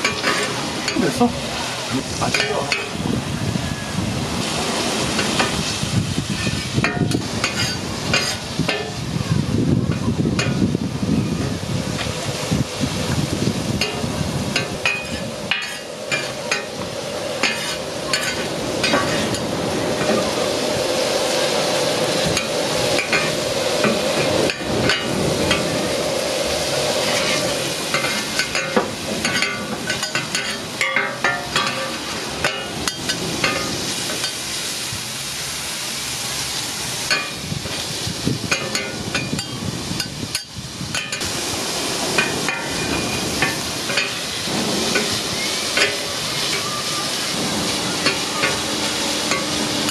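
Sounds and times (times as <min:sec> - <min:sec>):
meat sizzling on a griddle: 0:00.0 - 0:49.9.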